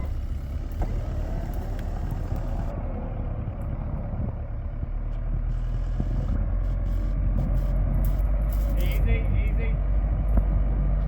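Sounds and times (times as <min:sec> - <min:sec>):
vehicle engine running at low speed: 0:00.0 - 0:11.0.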